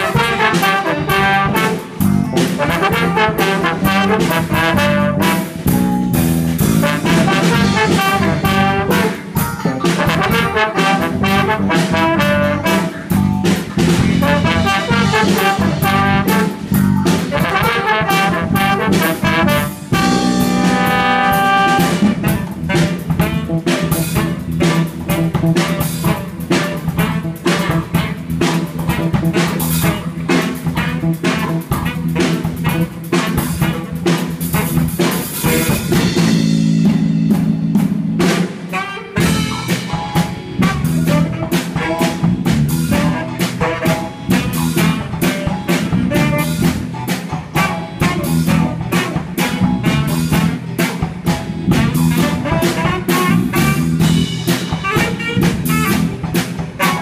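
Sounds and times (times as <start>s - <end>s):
saxophone: 0.0s - 5.6s, 6.7s - 13.4s, 14.0s - 36.6s, 38.7s - 57.0s
drum kit swing beat: 0.0s - 57.0s
guitar: 0.0s - 57.0s
jazz combo playing: 0.0s - 57.0s.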